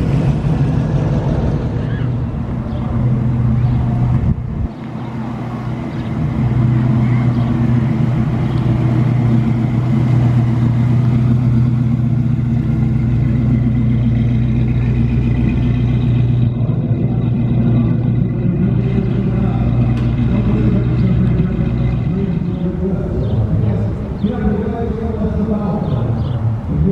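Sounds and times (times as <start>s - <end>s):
car engine rumbling: 0.0s - 26.9s.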